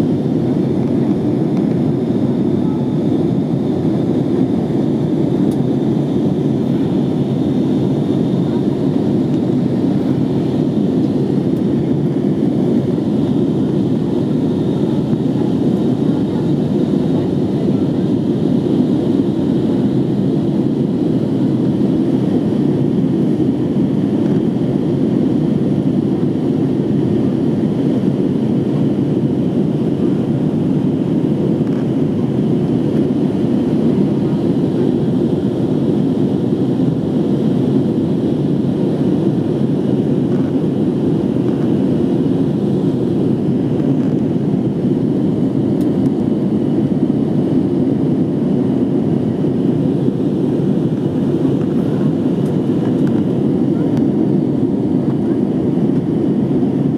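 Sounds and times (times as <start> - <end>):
airplane cabin engine rush: 0.0 - 56.9.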